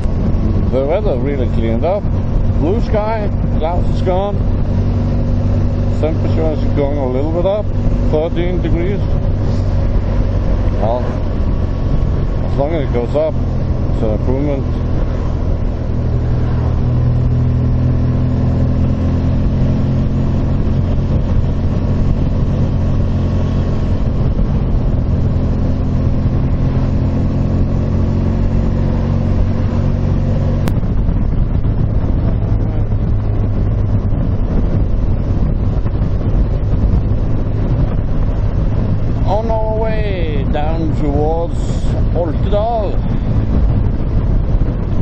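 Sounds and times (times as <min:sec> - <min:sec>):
motorcycle engine running: 0:00.0 - 0:45.0
wind noise: 0:00.0 - 0:45.0.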